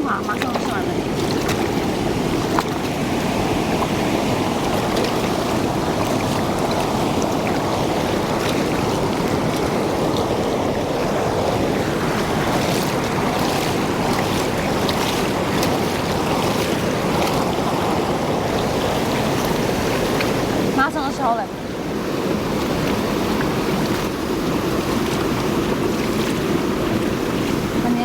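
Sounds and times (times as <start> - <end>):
running water rushing: 0.0 - 28.0
water splashes and drips: 0.0 - 28.0.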